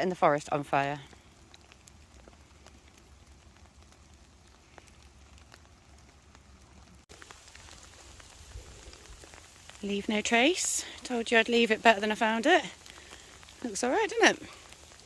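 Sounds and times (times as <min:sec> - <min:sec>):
faint steady rain: 0:00.0 - 0:15.0
raindrops ticking: 0:00.0 - 0:15.0.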